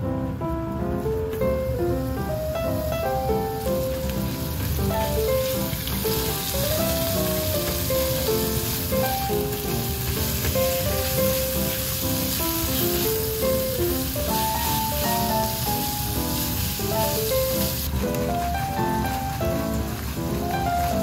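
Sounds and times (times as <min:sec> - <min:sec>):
light background music: 0:00.2 - 0:21.0
meat sizzling in a pan: 0:01.8 - 0:21.0
spatula stirring: 0:03.6 - 0:21.0.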